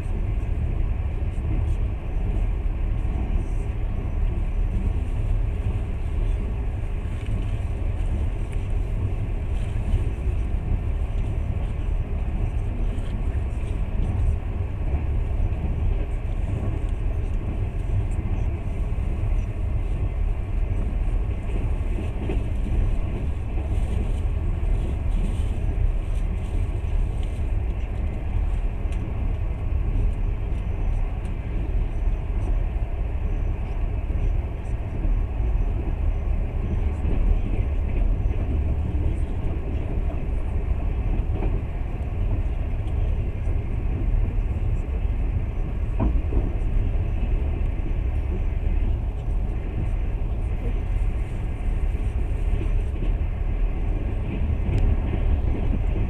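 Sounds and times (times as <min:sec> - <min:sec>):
train rumbling and rushing: 0:00.0 - 0:56.0.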